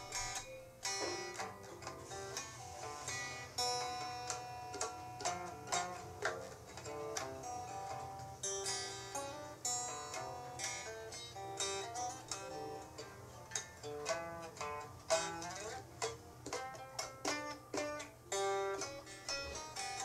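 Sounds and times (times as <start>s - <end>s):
plucked string instrument notes: 0.0s - 20.0s.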